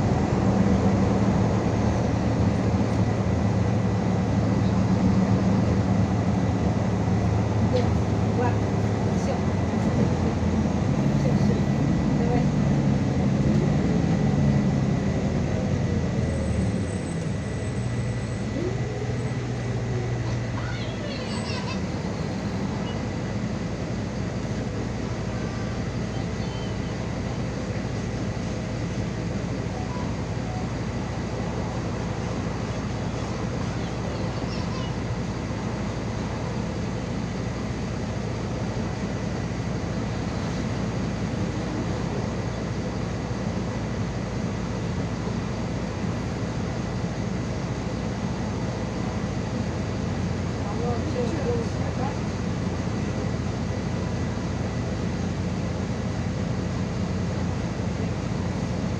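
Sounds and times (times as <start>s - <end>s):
bus engine drone: 0.0s - 58.9s
road and running noise: 0.0s - 58.9s.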